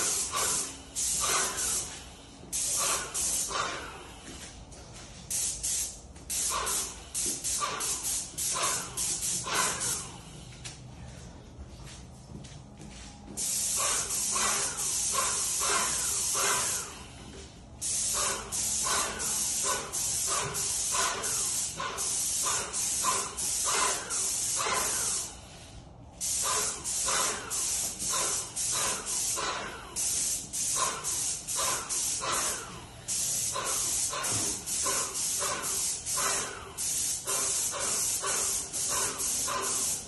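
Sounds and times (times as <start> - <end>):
paint spray gun hissing: 0.0 - 4.4, 5.3 - 10.3, 13.4 - 25.6, 26.2 - 40.0.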